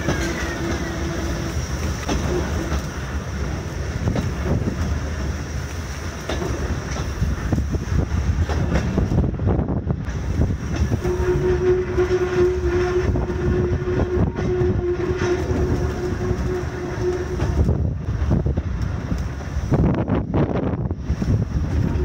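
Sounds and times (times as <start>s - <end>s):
railway car wheels clattering: 0.0s - 22.0s.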